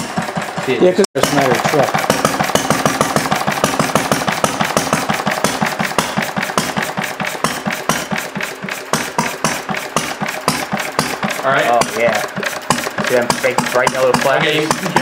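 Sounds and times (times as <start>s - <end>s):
single-cylinder engine running: 0.0s - 15.0s.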